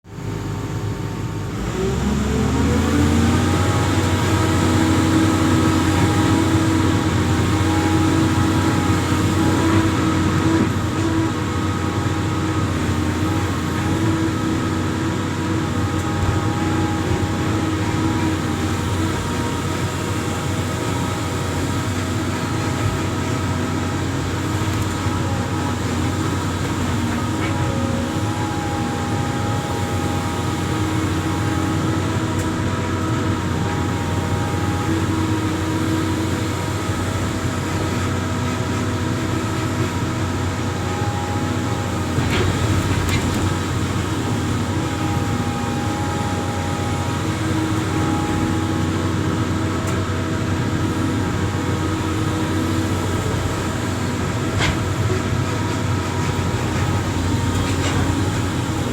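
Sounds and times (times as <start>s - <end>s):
diesel engine running: 0.1s - 58.9s
whining tones: 1.7s - 58.9s.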